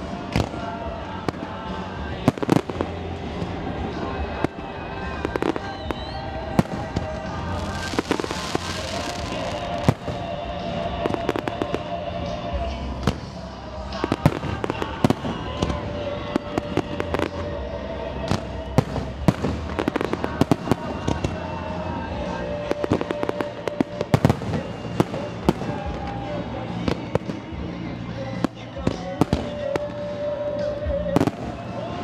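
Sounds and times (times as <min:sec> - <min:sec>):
fireworks bangs: 0:00.0 - 0:12.4, 0:13.0 - 0:27.7.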